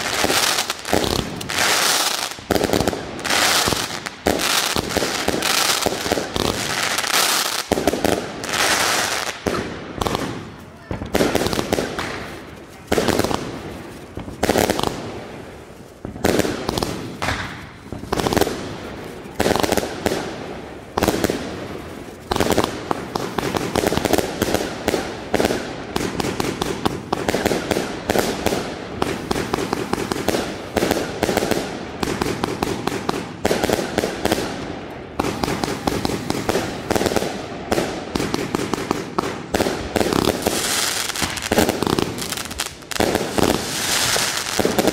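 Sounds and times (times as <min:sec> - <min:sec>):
fireworks shots bursting and crackling: 0:00.0 - 0:44.9.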